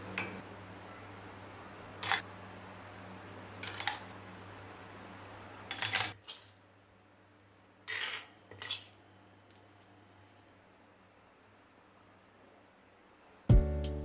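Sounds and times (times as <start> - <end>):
low background hum: 0.0 - 13.6.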